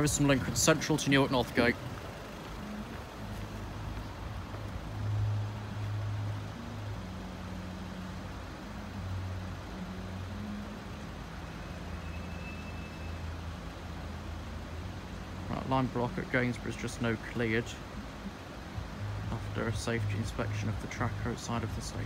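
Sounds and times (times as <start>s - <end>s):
vehicle engines droning: 0.0s - 22.0s.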